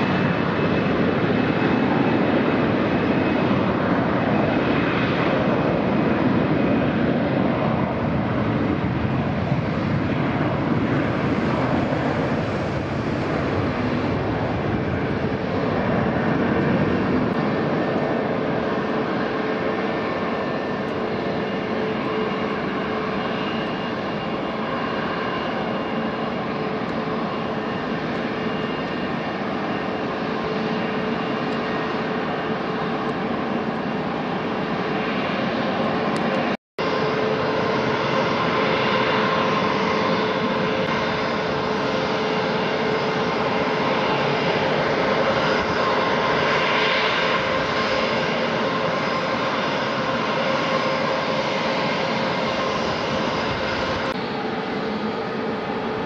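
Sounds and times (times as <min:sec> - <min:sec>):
jet engines at takeoff: 0:00.0 - 0:56.0.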